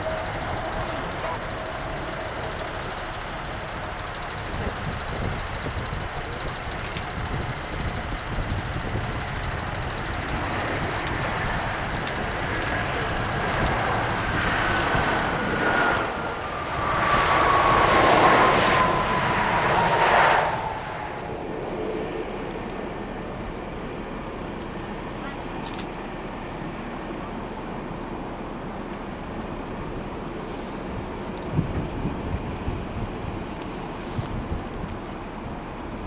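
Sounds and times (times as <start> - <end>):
wind rumble on microphone: 0.0 - 23.8, 30.8 - 36.0
jet engines whining overhead: 0.0 - 36.0.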